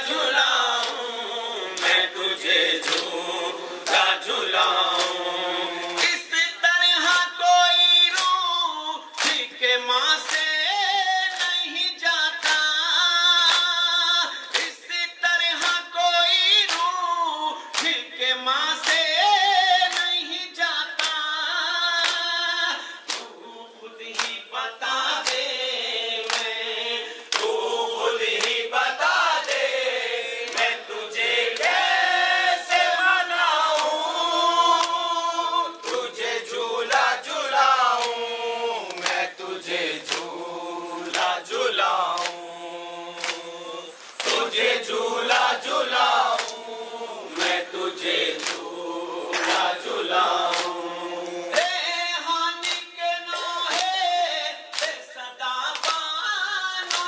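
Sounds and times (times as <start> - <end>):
group singing a lament in chorus: 0.0 - 57.0.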